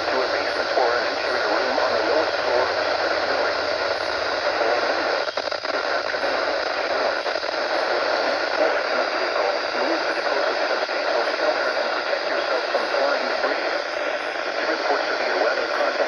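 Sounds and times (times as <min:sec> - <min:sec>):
radio static hiss: 0:00.0 - 0:16.0
static crackle: 0:00.0 - 0:16.0.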